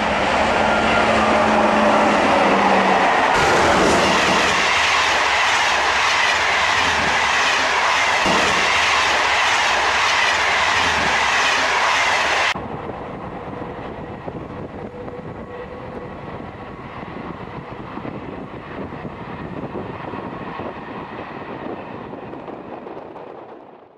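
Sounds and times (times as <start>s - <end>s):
model train running on track: 0.0s - 23.8s.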